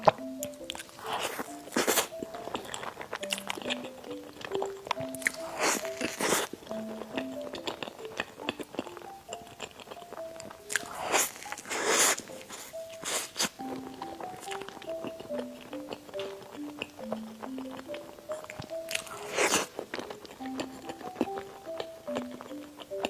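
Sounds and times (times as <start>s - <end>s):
crunchy biting and chewing: 0.0s - 23.0s
gentle background melody: 0.0s - 23.0s.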